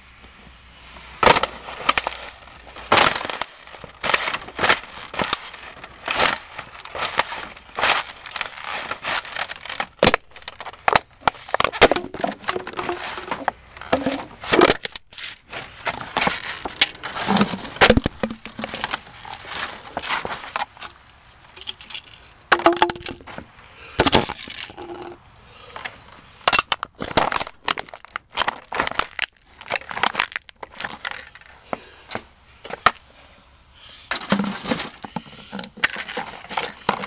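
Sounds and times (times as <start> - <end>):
boots crushing plastic and paper: 1.2 - 21.0, 21.6 - 25.1, 26.5 - 33.0, 34.1 - 37.0.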